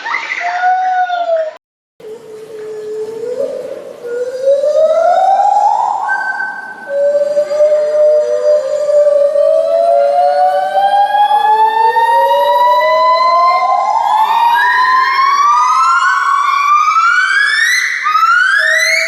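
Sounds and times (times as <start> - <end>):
gibbons whooping: 0.0 - 19.0.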